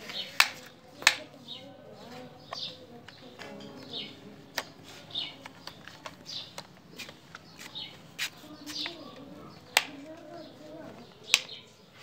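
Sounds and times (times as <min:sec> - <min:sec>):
plastic toy vehicles clicking: 0:00.0 - 0:08.0, 0:08.7 - 0:12.0
small birds chirping: 0:00.0 - 0:12.0.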